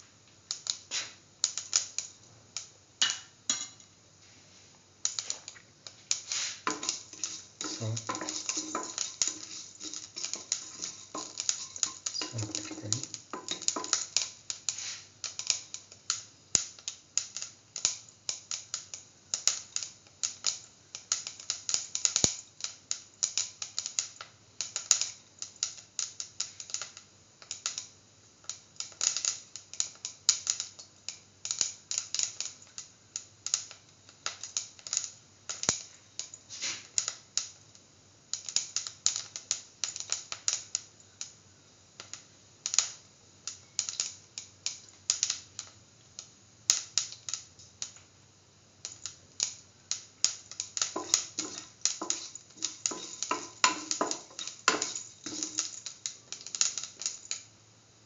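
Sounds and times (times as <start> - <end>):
seeds popping in hot oil: 0.0 - 4.0, 4.8 - 58.0.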